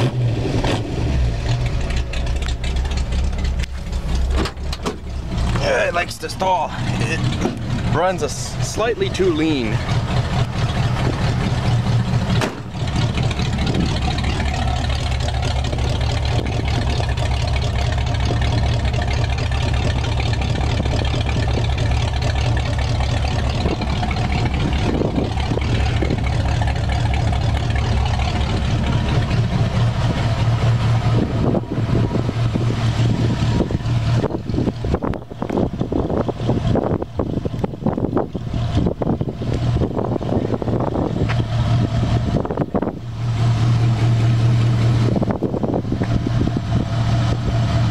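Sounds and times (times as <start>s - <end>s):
vee eight engine idling: 0.0s - 47.9s.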